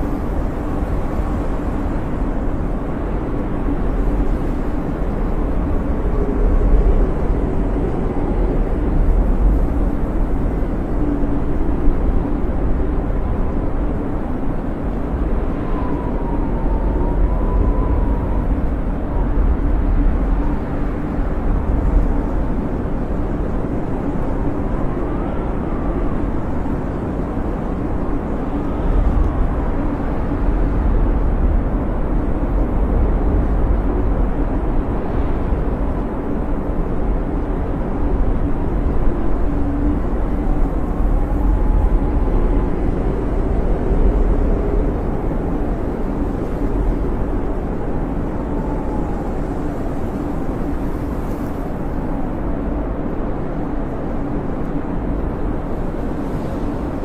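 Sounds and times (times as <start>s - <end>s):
blizzard wind howling: 0.0s - 57.0s
faint wind whistling: 0.0s - 57.0s.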